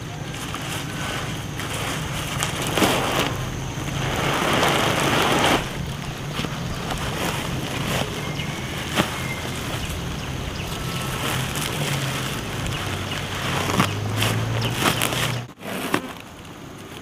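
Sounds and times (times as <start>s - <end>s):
plastic sack and onions rustling: 0.0s - 17.0s
sharp crackle: 0.0s - 17.0s
steady low hum: 0.0s - 17.0s.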